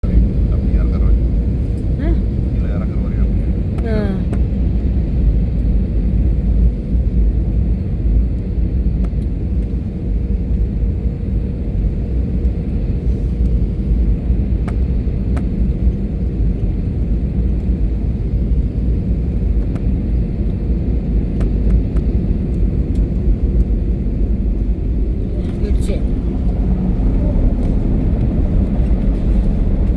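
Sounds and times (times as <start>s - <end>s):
airliner engine rumble: 0.0s - 29.9s.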